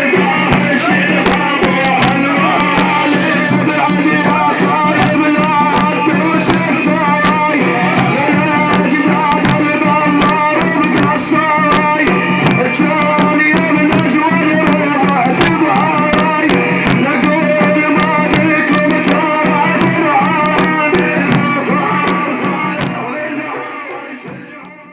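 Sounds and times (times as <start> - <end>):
rapidly beaten frame drums: 0.0 - 24.9
voices chanting: 0.0 - 24.9.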